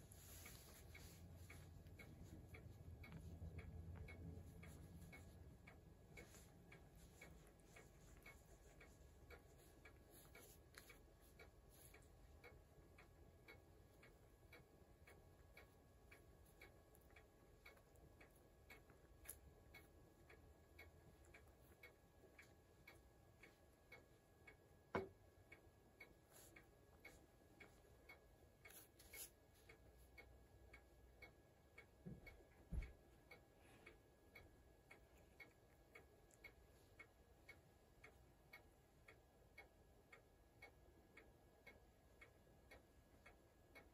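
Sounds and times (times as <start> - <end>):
faint even ticking: 0.0 - 43.9.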